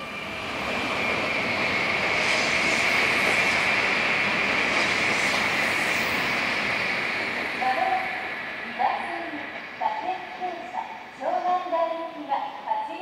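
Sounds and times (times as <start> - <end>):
electric train accelerating: 0.0 - 12.8.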